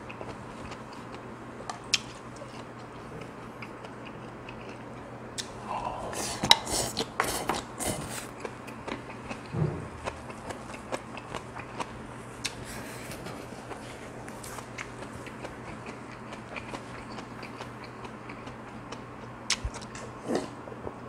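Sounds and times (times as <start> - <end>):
smacking and slurping while chewing: 0.1 - 20.6.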